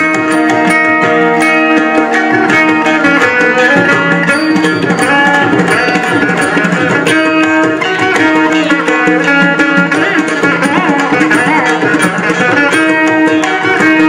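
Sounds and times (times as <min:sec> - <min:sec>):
hand drum strokes: 0:00.0 - 0:14.0
plucked veena with sliding notes: 0:00.0 - 0:14.0.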